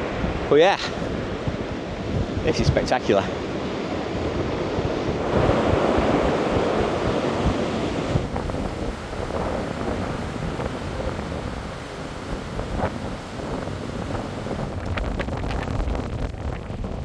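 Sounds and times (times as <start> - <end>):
storm surf breaking: 0.0 - 17.0
wind buffeting microphone: 0.0 - 17.0.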